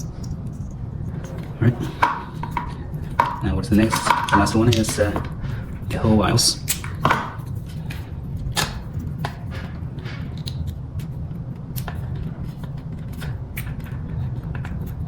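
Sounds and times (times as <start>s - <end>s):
steady low hum: 0.0s - 15.0s
wiring connectors clicking: 0.0s - 15.0s.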